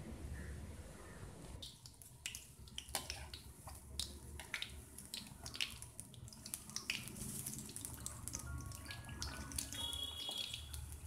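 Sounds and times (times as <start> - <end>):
batter deep-frying in oil: 1.6 - 11.0.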